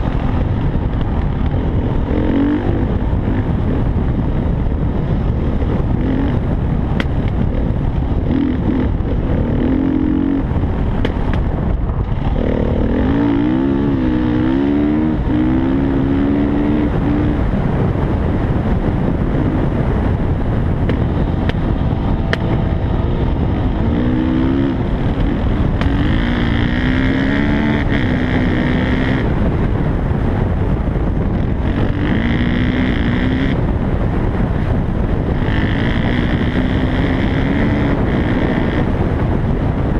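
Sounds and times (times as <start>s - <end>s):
dirt bike engine revving: 0.0s - 11.2s, 12.2s - 30.5s, 31.3s - 39.8s
wind rumble on microphone: 0.0s - 39.9s.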